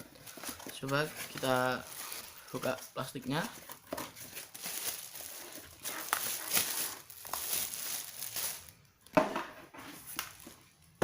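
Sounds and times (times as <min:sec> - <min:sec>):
plastic wrapping crinkling: 0:00.0 - 0:08.9.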